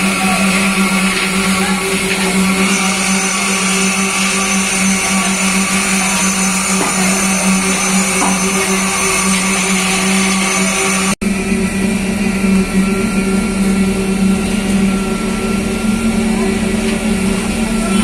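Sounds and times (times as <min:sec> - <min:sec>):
concrete machinery humming: 0:00.0 - 0:18.0.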